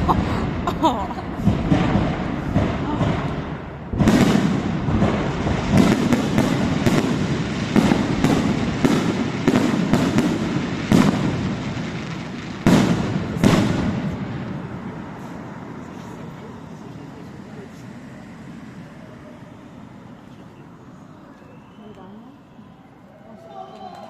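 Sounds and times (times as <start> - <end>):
fireworks exploding: 0.0 - 24.0.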